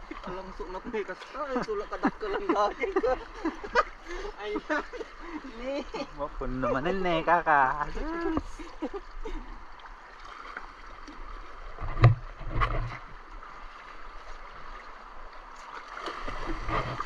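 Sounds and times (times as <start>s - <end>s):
river water running over rocks: 0.0s - 17.0s
wading splashes: 0.0s - 17.0s.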